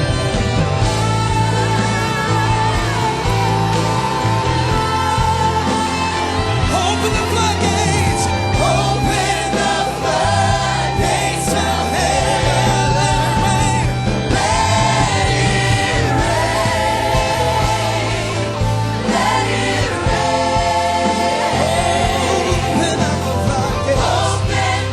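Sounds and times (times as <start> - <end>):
band with sustained bass: 0.0 - 24.9
choir singing gospel: 0.0 - 24.9.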